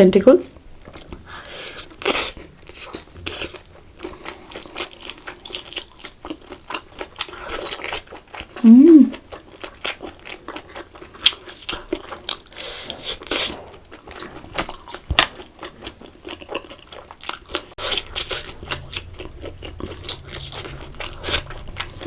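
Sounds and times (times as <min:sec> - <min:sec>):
person chewing food: 0:00.8 - 0:22.0.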